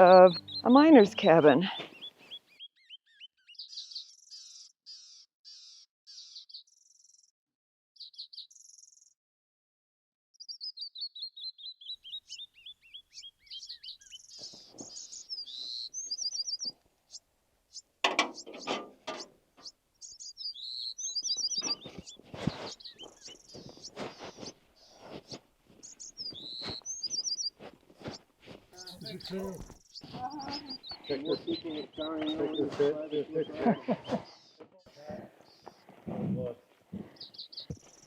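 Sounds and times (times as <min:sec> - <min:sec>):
songbirds chirping: 0:00.0 - 0:07.3, 0:08.0 - 0:09.1, 0:10.4 - 0:38.0.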